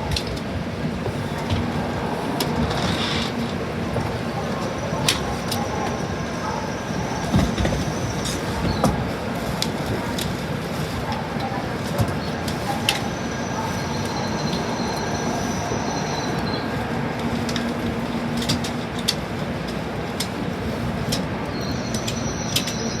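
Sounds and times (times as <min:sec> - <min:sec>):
train running rumble: 0:00.0 - 0:23.0
wheels clicking over rail joints: 0:00.0 - 0:23.0.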